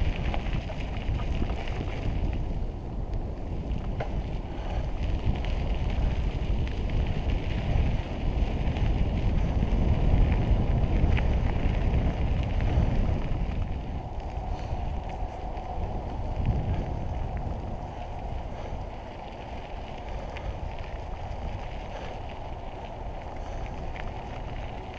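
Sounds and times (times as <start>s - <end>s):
tyres rolling over gravel: 0.0s - 24.9s
wind buffeting microphone: 0.0s - 24.9s.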